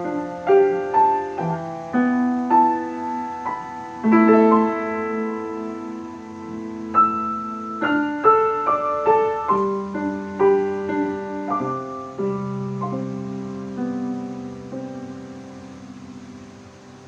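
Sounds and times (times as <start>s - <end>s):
slow solo piano melody: 0.0s - 17.0s.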